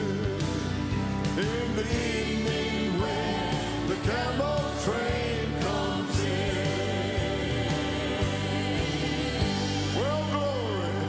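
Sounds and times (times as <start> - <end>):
gospel band playing: 0.0 - 11.0
backing singers singing: 1.4 - 11.0.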